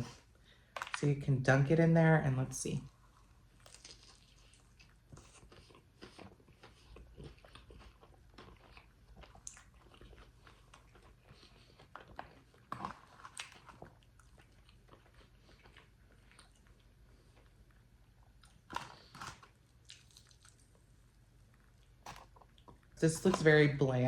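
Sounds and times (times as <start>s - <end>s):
chewing crispy chicken: 3.1s - 23.5s.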